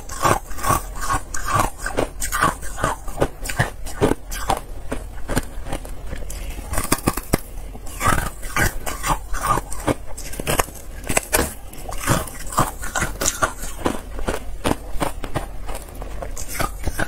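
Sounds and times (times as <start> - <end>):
ice crunching while chewed: 0.0 - 17.0.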